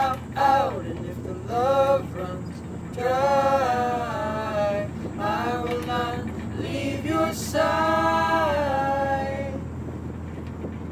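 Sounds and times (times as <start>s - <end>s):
voices singing long notes: 0.0s - 9.8s
steady low hum: 0.0s - 10.9s.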